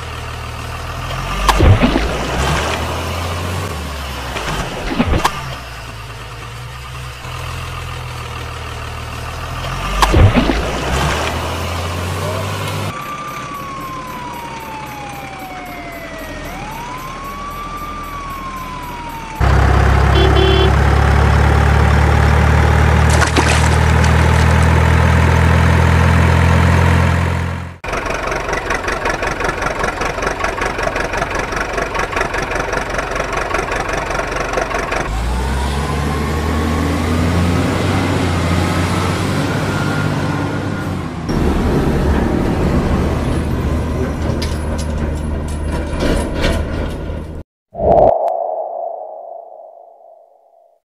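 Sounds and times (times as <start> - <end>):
truck engine: 0.0 - 47.4.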